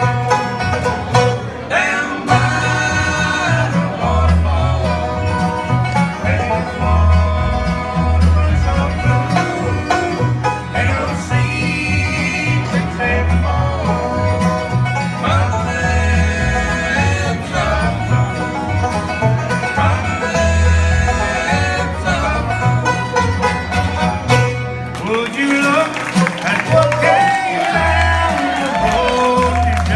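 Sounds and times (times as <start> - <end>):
low bass line: 0.0 - 25.1
banjo picking: 0.0 - 29.9
bluegrass band playing: 0.0 - 29.9
guitar picking: 0.0 - 29.9.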